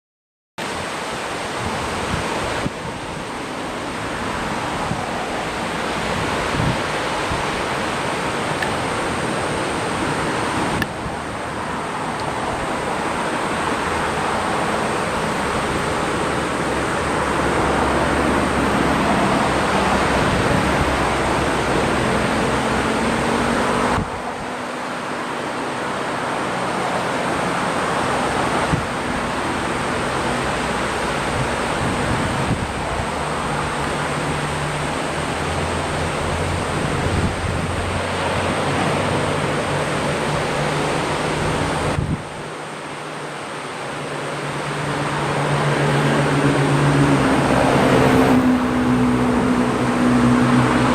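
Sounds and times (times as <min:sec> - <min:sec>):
breaking surf: 0:00.6 - 0:50.9
wind: 0:00.6 - 0:50.9.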